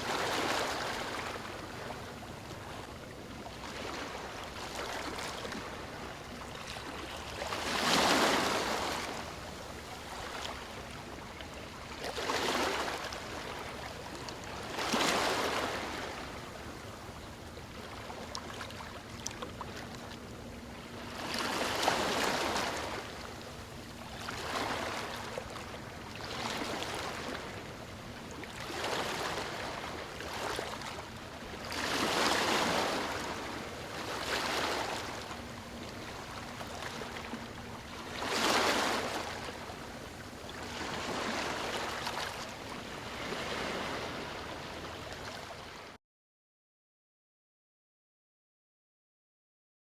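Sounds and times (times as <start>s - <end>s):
small waves breaking on beach: 0.0s - 16.8s, 20.9s - 46.0s.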